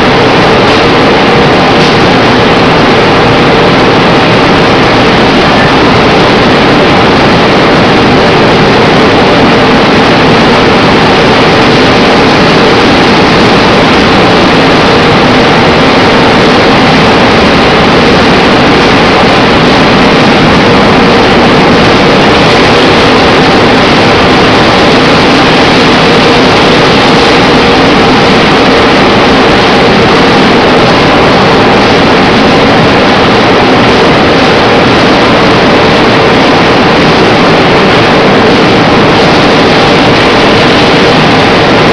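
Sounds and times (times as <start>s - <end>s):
machine hum: 0.0s - 41.9s.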